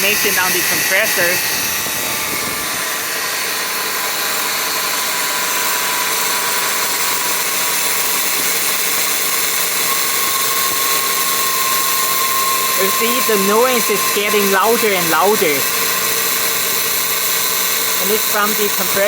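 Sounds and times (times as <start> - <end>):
ac compressor hiss and whir: 0.0 - 19.0.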